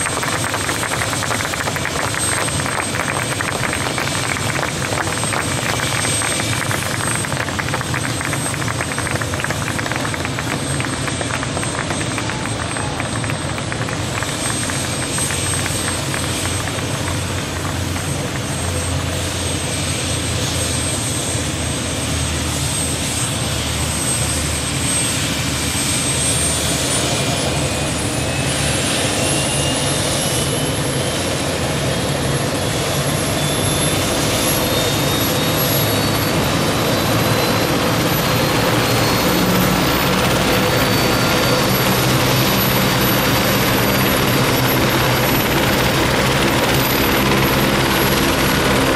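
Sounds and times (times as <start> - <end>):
helicopter engines whining: 0.0 - 48.9.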